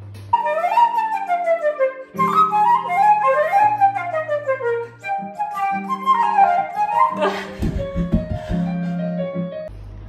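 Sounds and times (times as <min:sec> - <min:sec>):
flute melody: 0:00.3 - 0:09.7
piano chords: 0:00.3 - 0:10.0.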